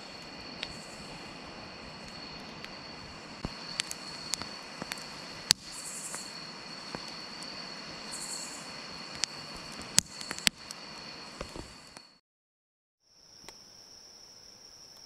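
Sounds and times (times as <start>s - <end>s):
insects trilling: 0.0s - 12.2s, 13.0s - 15.0s.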